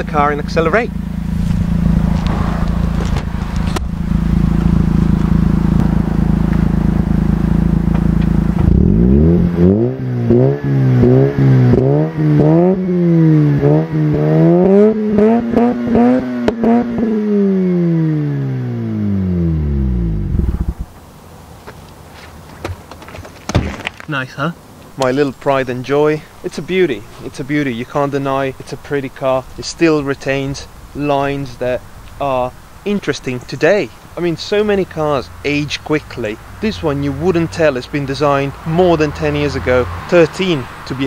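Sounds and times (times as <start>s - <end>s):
rotary engine idling and revving: 0.0s - 21.0s, 25.1s - 41.0s.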